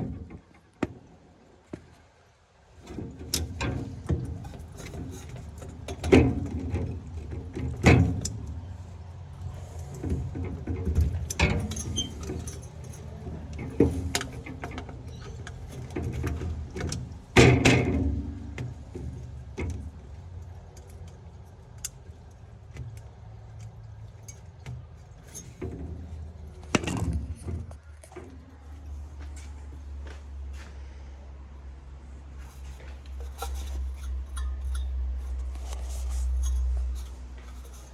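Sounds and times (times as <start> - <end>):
low steady hum: 0.0 - 37.9
tools and metal parts clinking: 2.8 - 28.5, 32.5 - 37.9.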